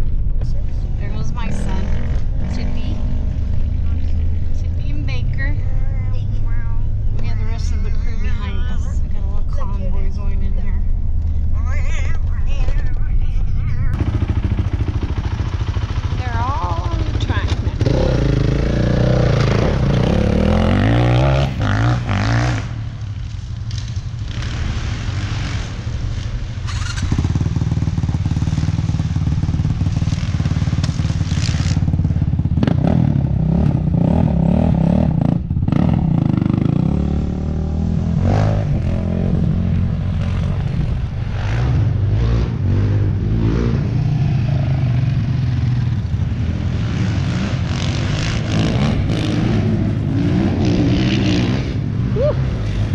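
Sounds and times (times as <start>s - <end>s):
quad engines revving: 0.5s - 9.6s, 13.9s - 52.9s.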